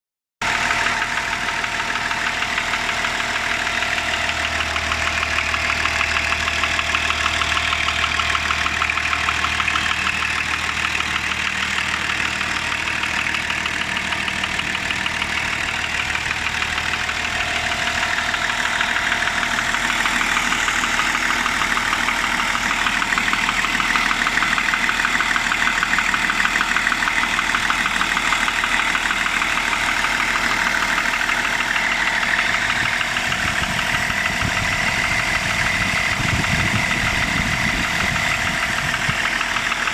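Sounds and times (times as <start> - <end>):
diesel engine idling with knock: 0.4 - 39.9.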